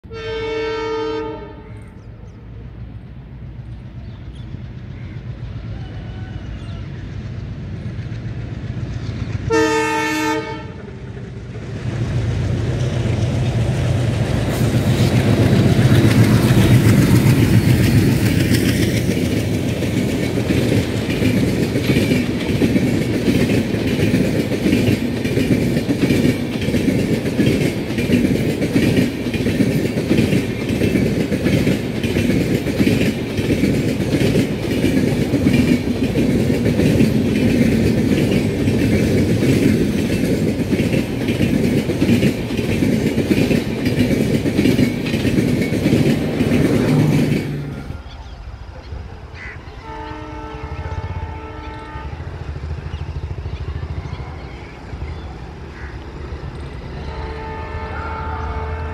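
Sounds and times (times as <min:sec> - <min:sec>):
diesel locomotive drone: 0:00.0 - 0:58.9
train coaches rumbling past: 0:00.0 - 0:58.9
wheels clacking over rail joints: 0:03.6 - 0:57.6.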